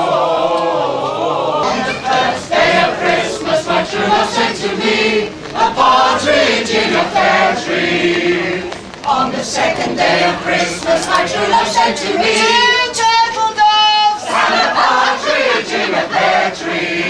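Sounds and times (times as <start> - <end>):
group singing a carol: 0.0 - 17.0.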